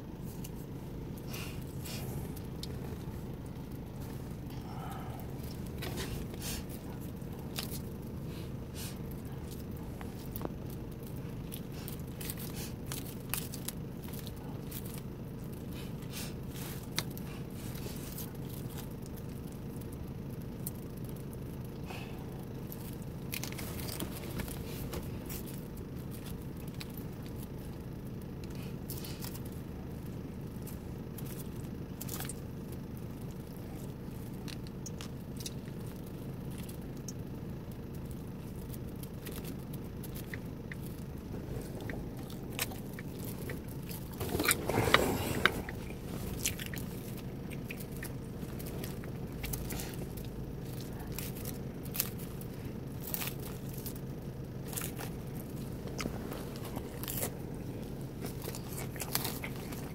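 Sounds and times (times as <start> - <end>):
chewing and crunching lettuce: 0.0 - 59.9
low hum: 0.0 - 59.9.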